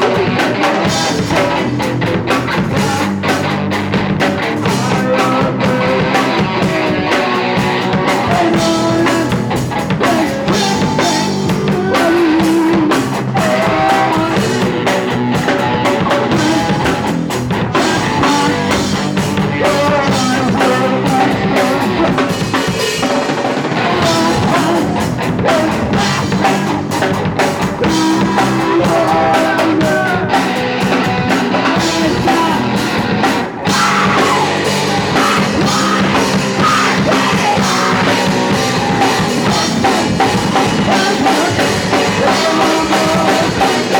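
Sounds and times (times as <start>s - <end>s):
drum kit: 0.0s - 43.9s
electric guitar: 0.0s - 43.9s
punk rock band playing live: 0.0s - 43.9s.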